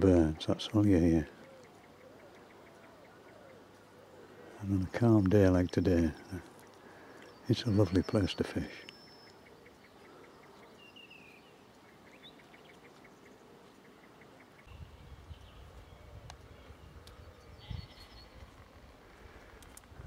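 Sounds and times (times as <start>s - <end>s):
small ticking bird notes: 0.0s - 20.0s
bird chirps: 1.3s - 19.4s.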